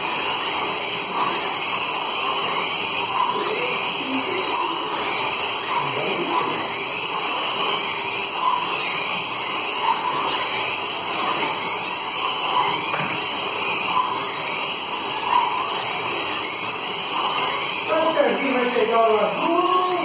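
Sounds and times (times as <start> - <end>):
slot car motors whining: 0.0 - 20.0.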